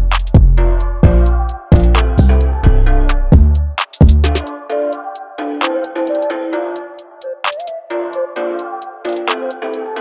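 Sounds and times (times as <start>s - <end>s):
hi-hat ticks: 0.0s - 2.5s, 3.4s - 7.9s, 8.6s - 10.0s
background music melody: 0.0s - 10.0s.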